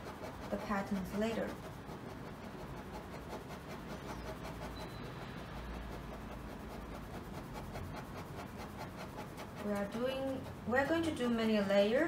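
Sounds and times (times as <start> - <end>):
pen scratching on paper: 0.0 - 12.0.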